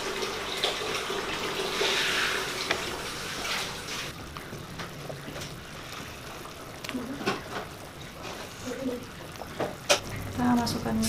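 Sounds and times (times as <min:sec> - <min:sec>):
broth bubbling in a pot: 0:00.0 - 0:11.0.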